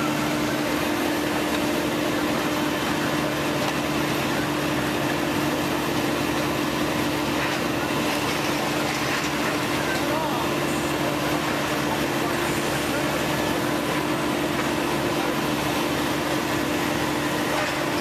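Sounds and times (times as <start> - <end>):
diesel machinery droning: 0.0 - 18.0.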